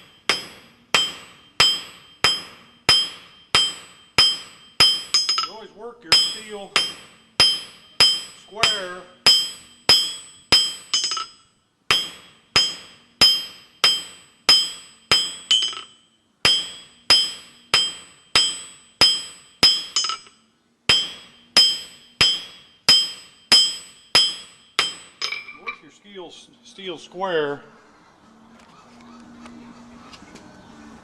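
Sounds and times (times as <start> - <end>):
hammer ringing on anvil: 0.0 - 25.8.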